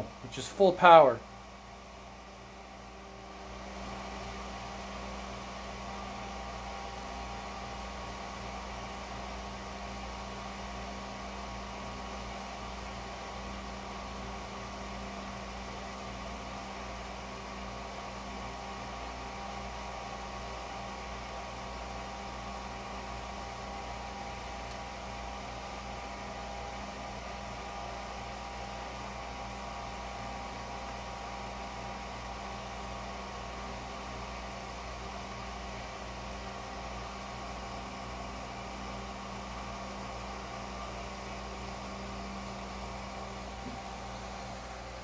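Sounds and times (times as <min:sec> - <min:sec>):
fan and burner whir: 0:00.0 - 0:45.0.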